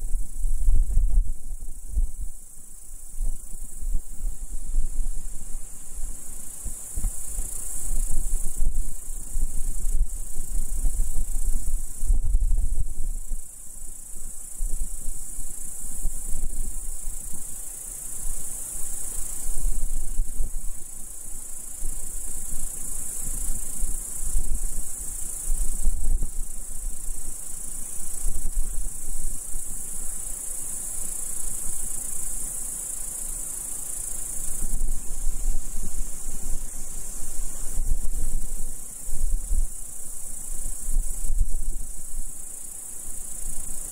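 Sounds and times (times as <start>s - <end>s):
wind rumbling on microphone: 0.0s - 33.4s, 34.1s - 43.9s
insects chirring: 0.0s - 43.9s.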